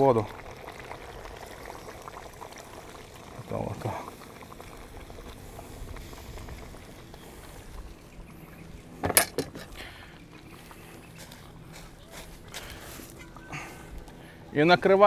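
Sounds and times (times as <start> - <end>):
water bubbling in a cauldron: 0.0 - 14.6.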